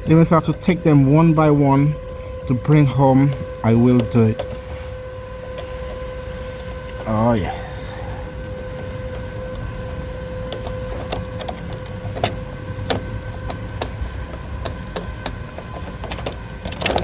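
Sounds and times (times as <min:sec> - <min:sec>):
mechanical drone with whine: 0:00.0 - 0:17.0.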